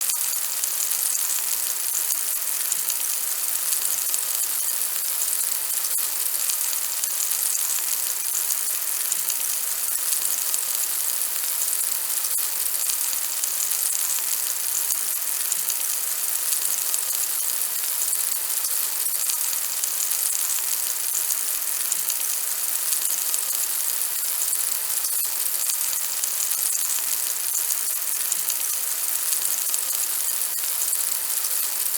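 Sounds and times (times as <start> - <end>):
oil sizzling in a frying pan: 0.0 - 31.9.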